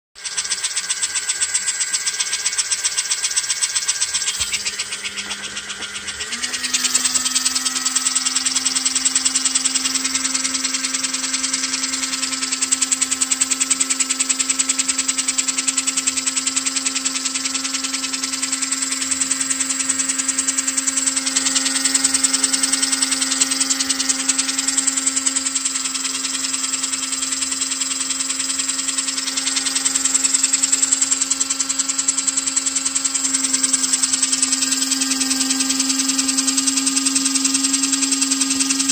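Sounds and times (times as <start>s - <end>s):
model train motor whine: 0.2s - 38.9s.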